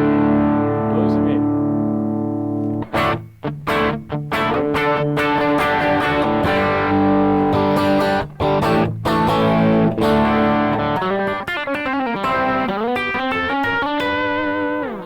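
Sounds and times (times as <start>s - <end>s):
overdriven electric guitar: 0.0s - 15.0s.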